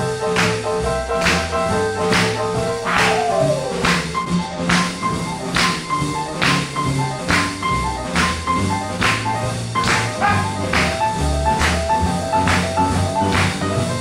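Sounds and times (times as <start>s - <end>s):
walking bass line: 0.0s - 14.0s.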